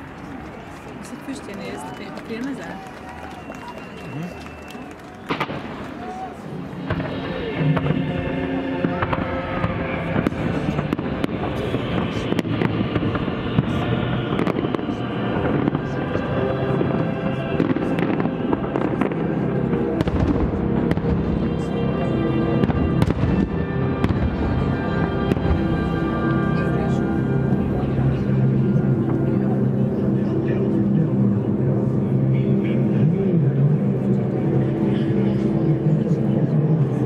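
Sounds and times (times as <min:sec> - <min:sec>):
fireworks bursting and crackling: 0:00.0 - 0:30.0
music playing: 0:06.5 - 0:37.0.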